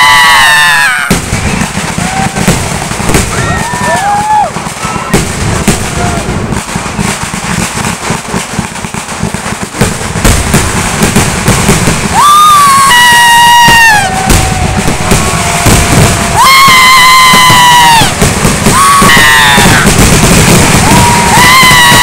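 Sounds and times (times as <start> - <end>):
fireworks cracking and banging: 0.0 - 22.0
fireworks whistling: 0.0 - 22.0.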